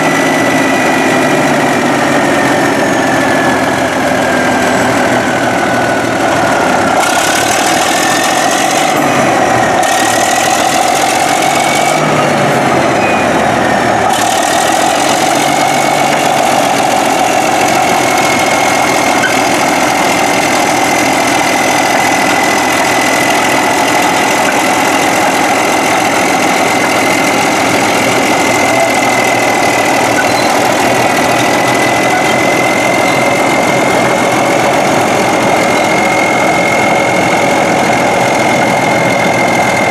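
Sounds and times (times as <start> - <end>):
dozer diesel engine running: 0.0 - 39.9.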